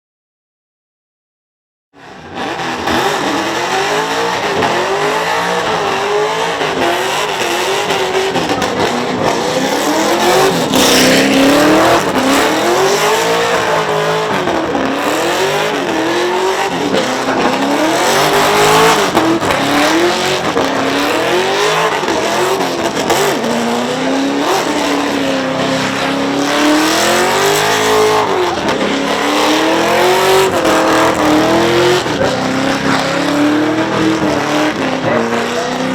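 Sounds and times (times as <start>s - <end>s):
car engine revving: 2.0s - 35.9s.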